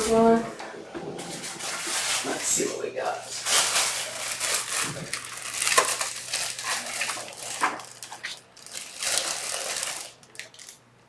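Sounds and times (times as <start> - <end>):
paper rustling: 1.2 - 10.7.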